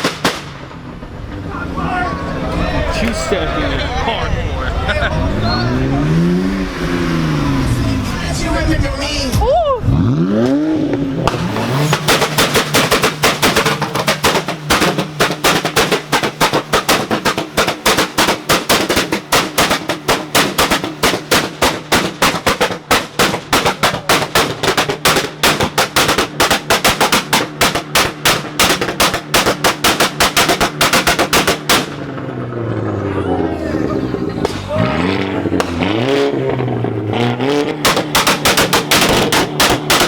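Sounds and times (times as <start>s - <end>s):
exhaust pops and bangs: 0.0s - 32.9s, 34.2s - 40.0s
car engine revving: 0.0s - 40.0s.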